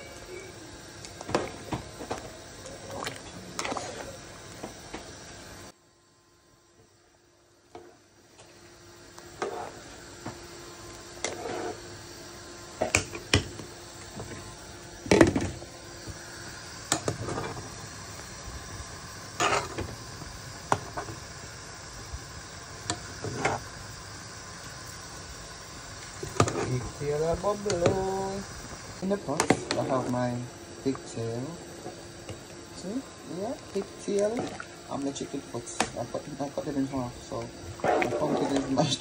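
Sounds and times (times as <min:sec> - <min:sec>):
pots boiling: 0:00.0 - 0:39.0.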